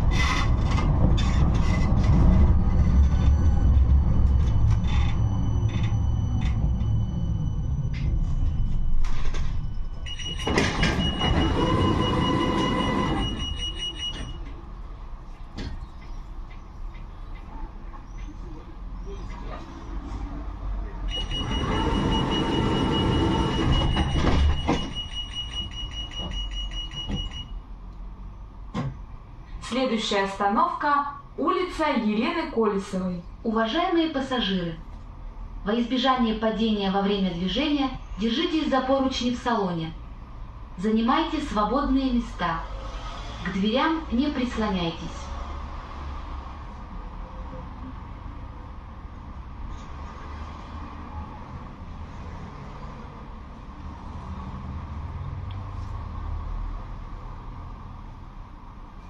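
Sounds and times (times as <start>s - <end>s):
tram low rumble: 0.0s - 59.0s.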